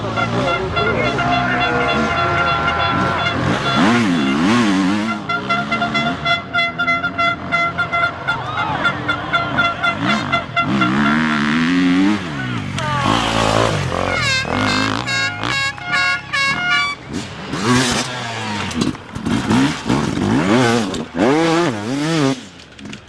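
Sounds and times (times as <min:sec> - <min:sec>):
horn-like tone: 0:00.0 - 0:18.5
motorcycle engines revving: 0:00.0 - 0:23.0.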